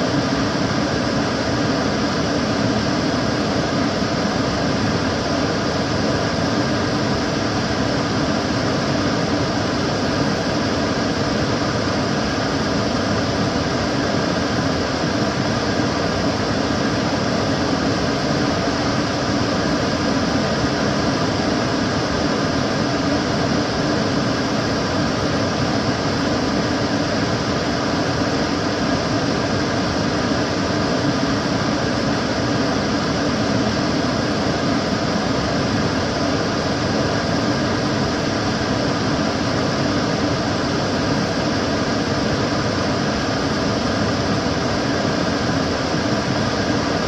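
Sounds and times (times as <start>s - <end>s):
extractor fan rushing air: 0.0s - 47.0s.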